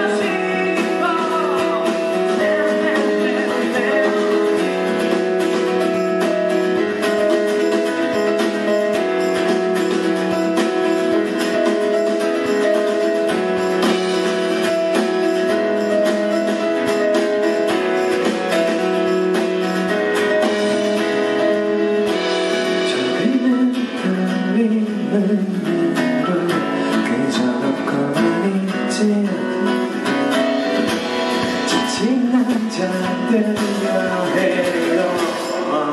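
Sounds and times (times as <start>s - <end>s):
acoustic guitar strumming chords: 0.0s - 35.9s.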